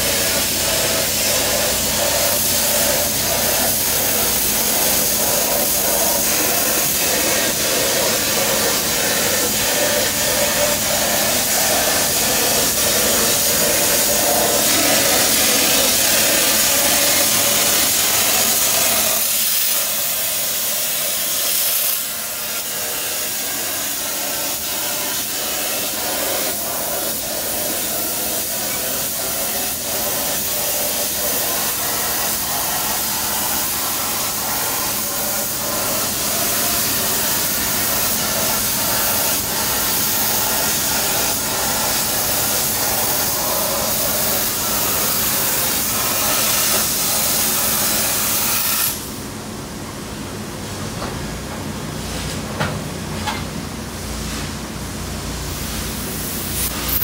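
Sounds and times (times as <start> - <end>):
plasma torch hissing: 0.0 - 49.2, 55.5 - 57.0.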